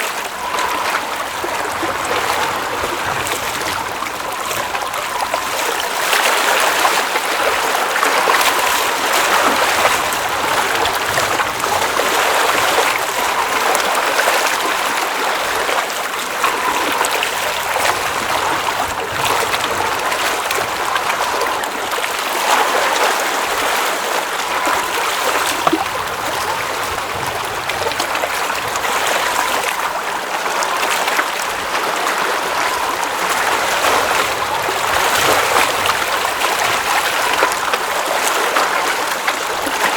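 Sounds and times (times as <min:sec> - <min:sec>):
water gurgles: 0:00.0 - 0:39.9.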